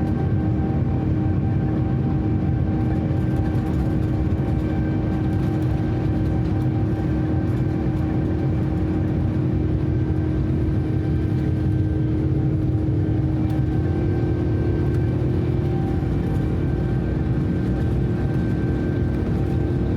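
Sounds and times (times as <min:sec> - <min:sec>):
airliner cabin engine rumble: 0:00.0 - 0:19.9.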